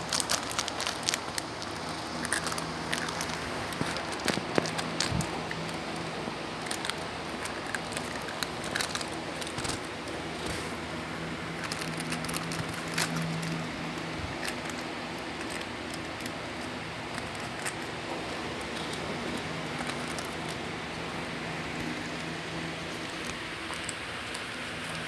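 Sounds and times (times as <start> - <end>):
dog chewing packaging wrapper: 0.0 - 25.0
wrapper crinkling: 0.0 - 25.0.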